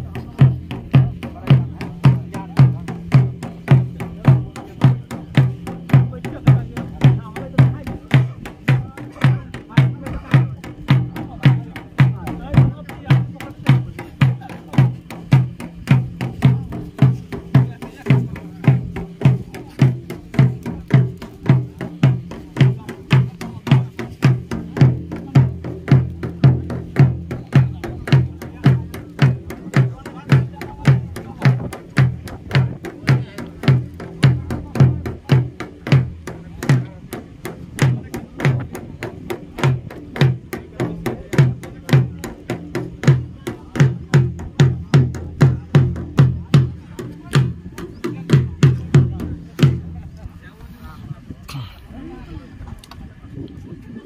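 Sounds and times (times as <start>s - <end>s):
steady drum beat: 0.0s - 50.6s.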